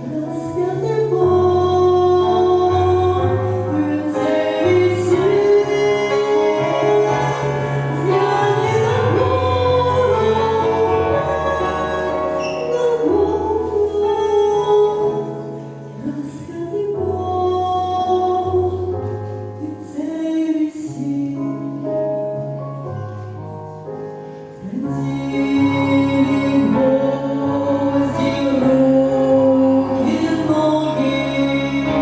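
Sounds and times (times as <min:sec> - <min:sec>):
person singing: 0:00.0 - 0:19.0, 0:24.6 - 0:32.0.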